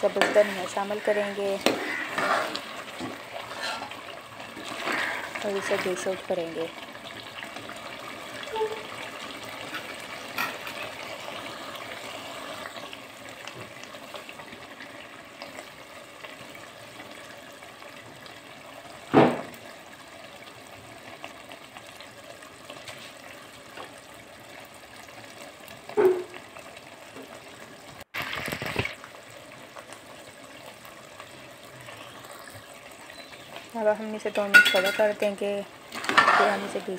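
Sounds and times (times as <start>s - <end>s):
curry bubbling in a pot: 0.0s - 36.9s.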